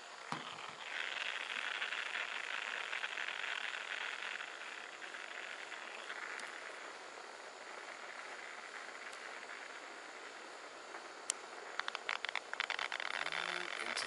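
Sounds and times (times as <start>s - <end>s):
night chorus of calling animals: 0.0s - 14.0s.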